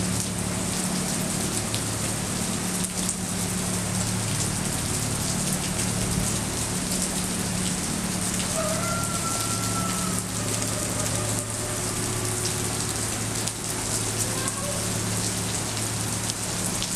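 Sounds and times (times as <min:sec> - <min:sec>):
rain on wet pavement: 0:00.0 - 0:16.9.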